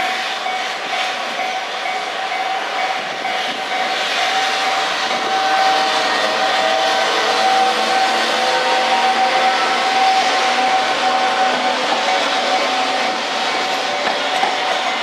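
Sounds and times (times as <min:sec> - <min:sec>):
crossing alarm ringing tone: 0:00.0 - 0:15.0
freight train wheels on rails: 0:00.0 - 0:15.0.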